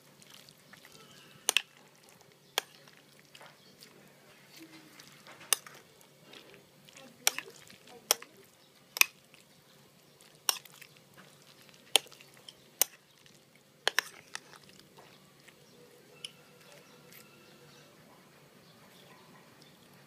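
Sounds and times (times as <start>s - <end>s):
soft wet mixing sounds: 0.0s - 20.0s.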